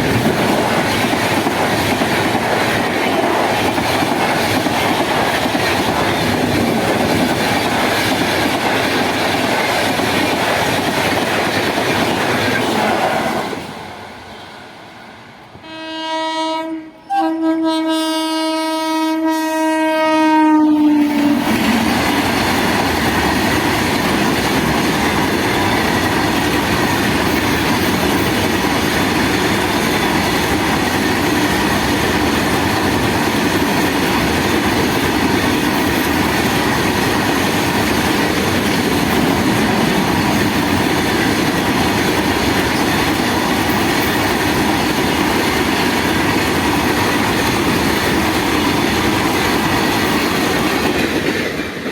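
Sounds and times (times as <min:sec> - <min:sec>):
train wheels rumbling on rails: 0:00.0 - 0:15.7, 0:20.3 - 0:51.9.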